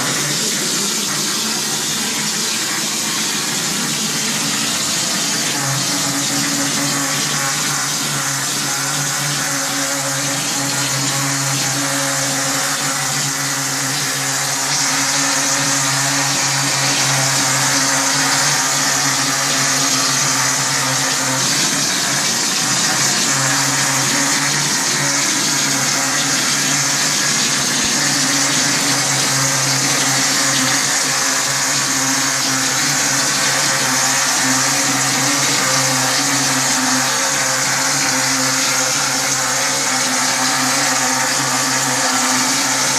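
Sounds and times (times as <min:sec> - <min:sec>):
motor hum: 0:00.0 - 0:42.9.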